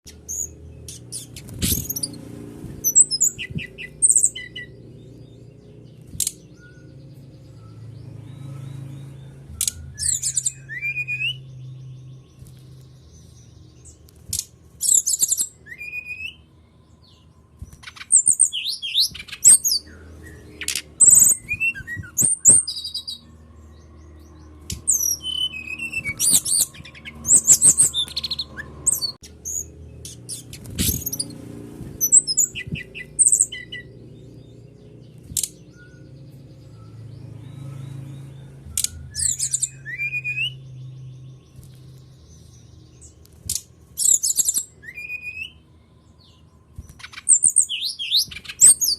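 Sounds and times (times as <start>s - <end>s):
songbird chirping and trilling: 0.1s - 48.9s
steady low hum: 0.1s - 48.9s.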